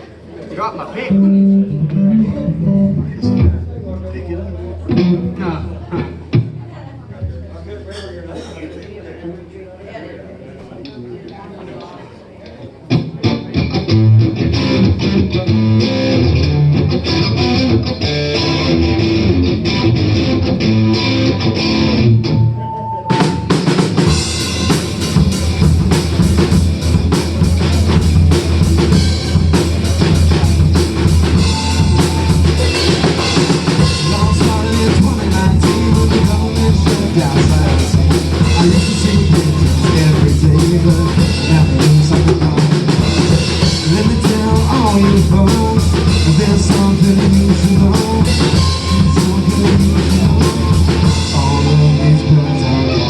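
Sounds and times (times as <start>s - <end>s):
lead guitar: 1.0s - 6.7s, 12.9s - 53.0s
rock band playing: 1.1s - 6.7s, 12.9s - 53.0s.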